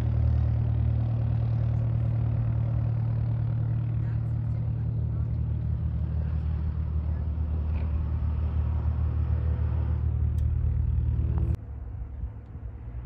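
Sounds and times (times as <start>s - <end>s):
aircraft engine and propeller drone: 0.0s - 13.0s
faint rumble: 0.0s - 13.0s.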